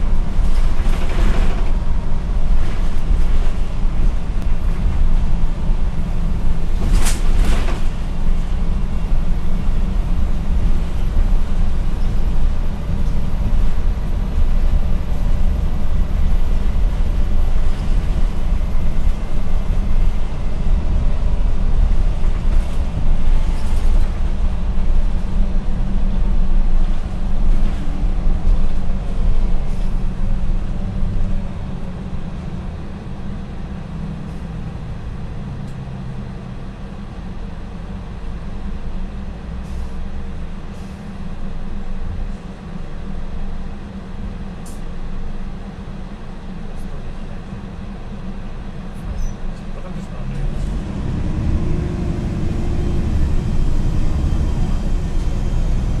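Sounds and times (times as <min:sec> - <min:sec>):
bus engine drone: 0:00.0 - 0:56.0
road and tyre noise: 0:00.0 - 0:56.0.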